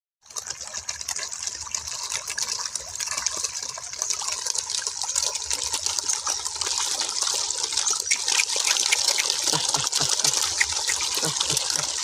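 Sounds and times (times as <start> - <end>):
fish splashing in pond water: 0.2 - 12.0.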